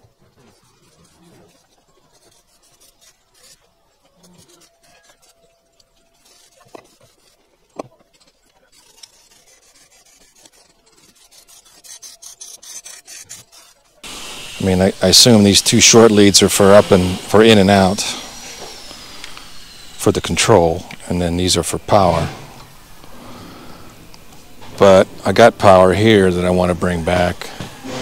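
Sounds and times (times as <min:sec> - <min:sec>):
scraping painted steel: 0:00.0 - 0:28.0.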